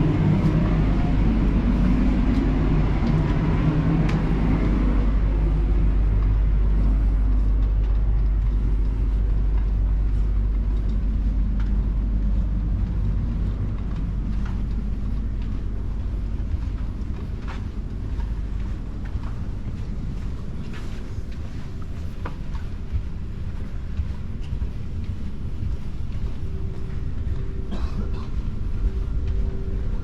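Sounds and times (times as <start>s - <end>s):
heavy engine rumbling: 0.0s - 30.0s.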